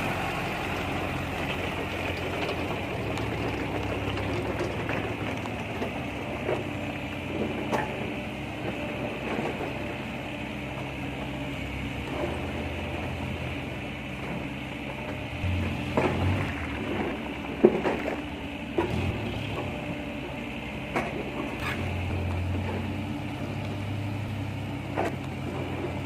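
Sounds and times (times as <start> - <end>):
diesel engine running at low revs: 0.0 - 26.0.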